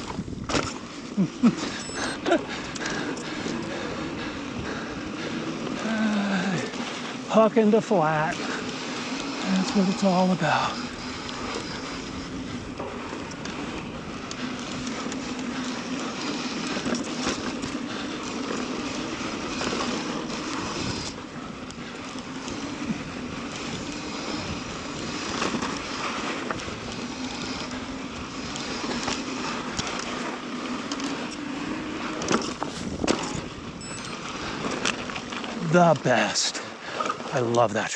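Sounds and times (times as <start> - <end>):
bike rattling over rough ground: 0.0 - 37.9
bike tyres rolling over dirt: 0.0 - 37.9.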